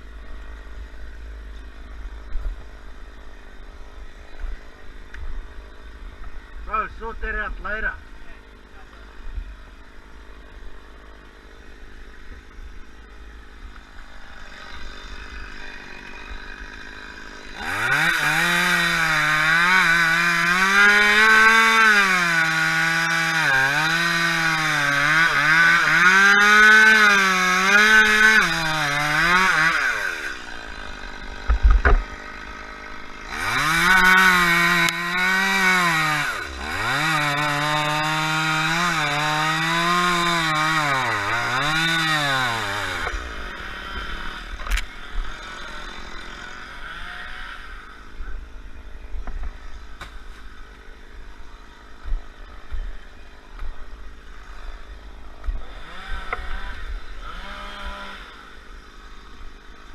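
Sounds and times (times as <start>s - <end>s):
chainsaw cutting wood: 7.0s - 48.5s, 49.2s - 59.9s.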